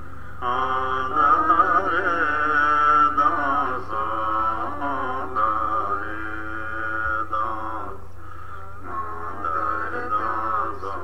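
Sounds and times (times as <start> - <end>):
chant-like singing: 0.0 - 11.0.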